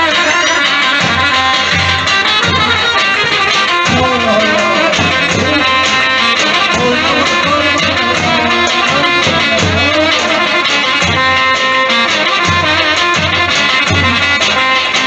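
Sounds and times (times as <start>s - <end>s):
steady drum beat: 0.0s - 15.0s
wind instrument melody: 0.0s - 15.0s.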